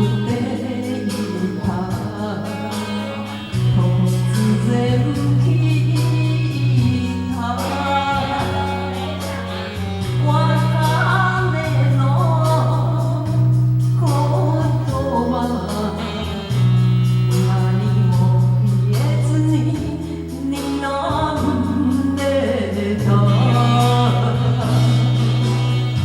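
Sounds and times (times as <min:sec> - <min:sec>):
karaoke backing track with bass: 0:00.0 - 0:26.0
person singing karaoke: 0:00.0 - 0:26.0.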